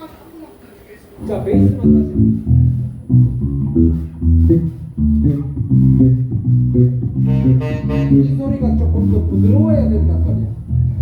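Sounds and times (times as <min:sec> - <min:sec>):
electric bass guitar plucking: 0:01.2 - 0:11.0.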